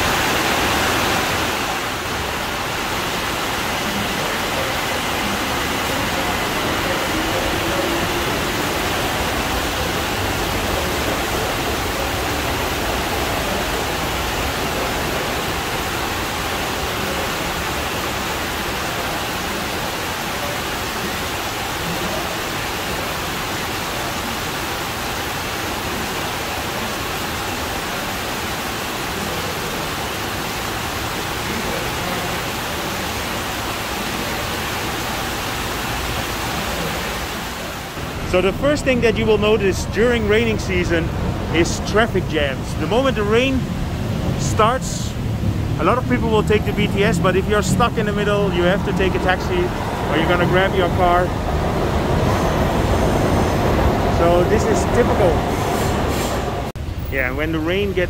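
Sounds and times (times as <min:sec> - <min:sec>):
rain pouring: 0:00.0 - 0:58.0.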